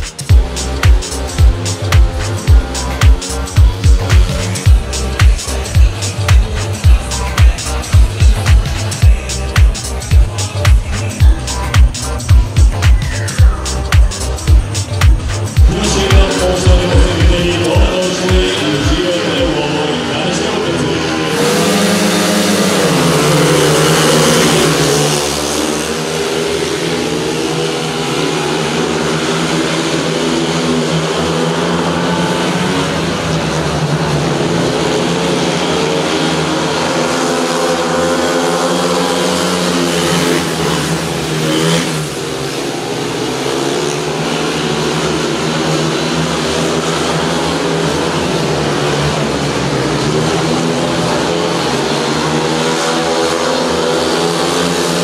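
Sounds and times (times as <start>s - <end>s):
motorcycle engines racing: 0.0s - 55.0s.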